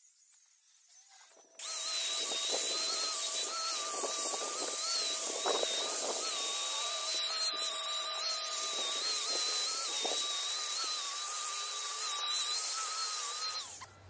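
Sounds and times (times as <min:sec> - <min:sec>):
angle grinder whining: 0:00.1 - 0:14.0
grinder disc rasping wood: 0:00.1 - 0:14.0.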